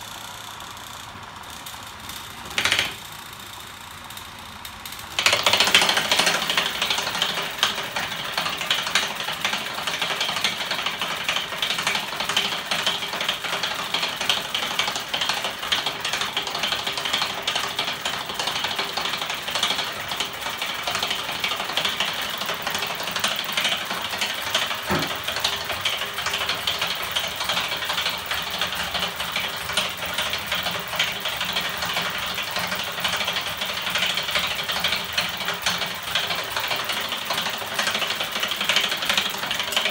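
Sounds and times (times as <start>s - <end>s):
motor-driven rattling clatter: 0.0s - 39.9s.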